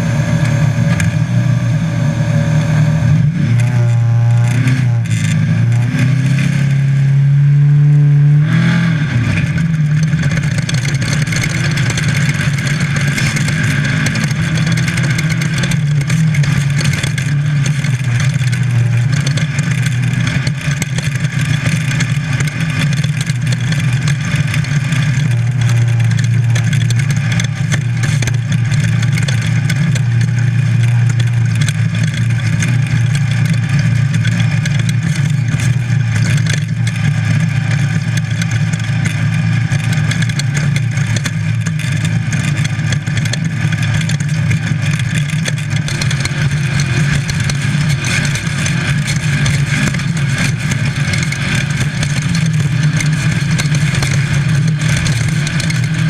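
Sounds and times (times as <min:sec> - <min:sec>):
car engine running hard: 0:00.0 - 0:56.0
car rattling and clattering: 0:00.0 - 0:56.0
road noise over rough ground: 0:00.0 - 0:56.0.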